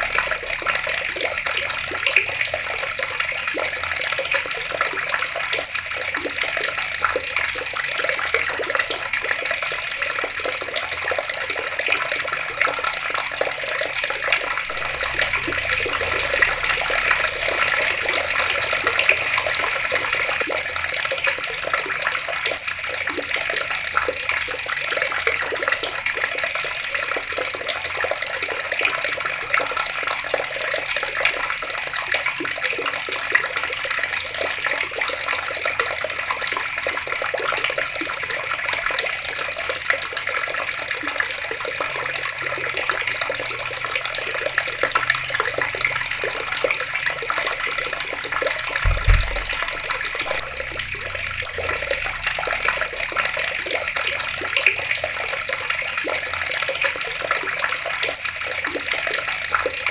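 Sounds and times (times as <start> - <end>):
water running from a tap: 0.0 - 59.9.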